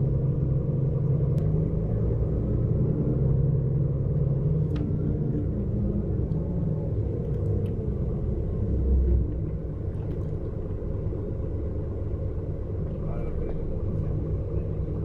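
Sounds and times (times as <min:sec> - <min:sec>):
diesel coach engine rumbling: 0:00.0 - 0:15.0.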